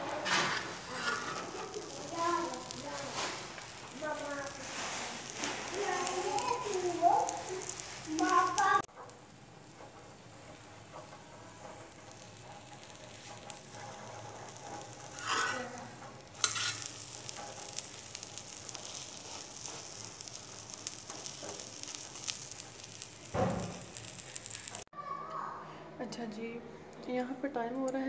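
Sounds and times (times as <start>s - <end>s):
metal spatula scraping: 0.0s - 7.9s, 9.6s - 24.6s
omelette sizzling on a griddle: 0.0s - 24.9s.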